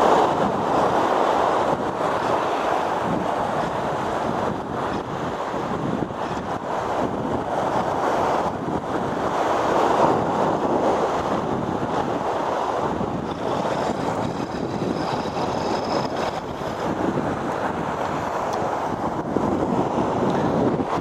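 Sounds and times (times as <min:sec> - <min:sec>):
sea waves breaking over rocks: 0:00.0 - 0:21.0
wind buffeting microphone: 0:00.0 - 0:21.0.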